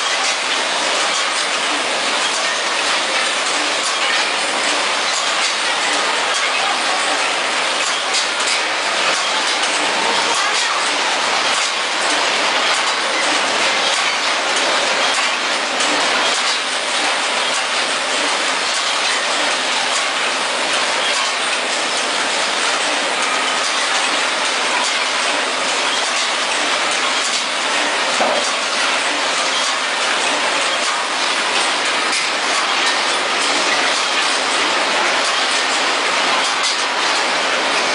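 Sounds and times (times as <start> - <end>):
packaging machines clattering: 0.0 - 37.9.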